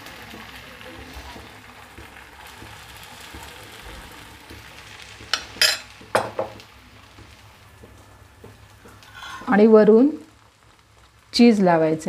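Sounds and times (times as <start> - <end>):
batter sizzling in a pan: 0.0 - 12.0.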